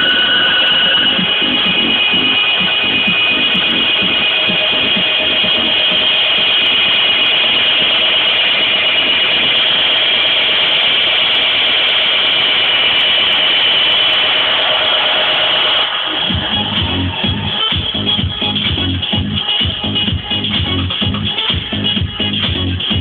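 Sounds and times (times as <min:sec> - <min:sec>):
dance music beat: 0:00.0 - 0:23.0
noisy synth drone: 0:00.0 - 0:23.0.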